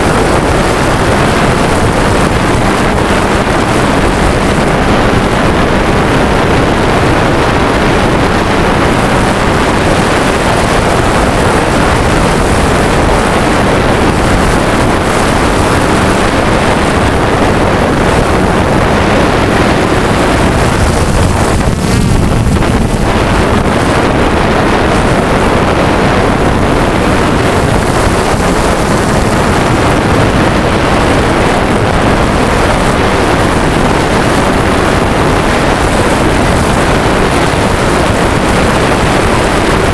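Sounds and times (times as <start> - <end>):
drone propellers whirring: 0.0 - 37.8
wind noise on microphone: 0.0 - 39.9.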